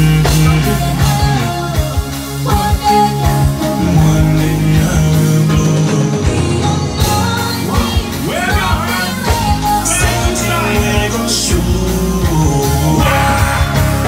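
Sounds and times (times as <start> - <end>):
backing track with bass beat: 0.0 - 14.0
person singing into a microphone: 0.0 - 14.0.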